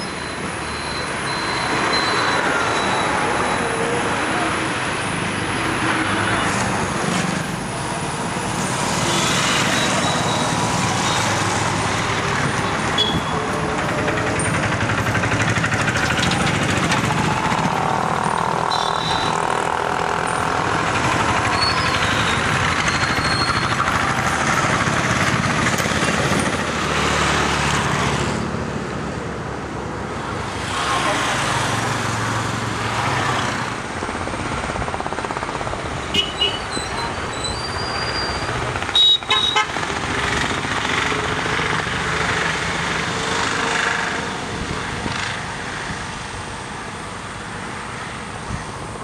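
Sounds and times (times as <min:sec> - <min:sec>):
passing vehicles on a road: 0:00.0 - 0:49.0.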